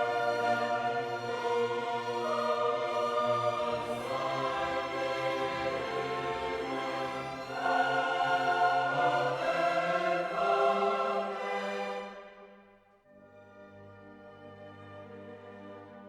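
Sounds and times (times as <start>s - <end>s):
orchestral music with choir: 0.0s - 16.0s.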